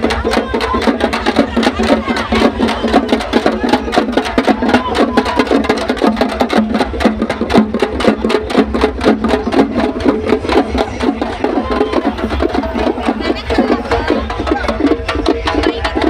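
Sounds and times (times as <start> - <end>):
fast drumming with sticks: 0.0 - 16.0.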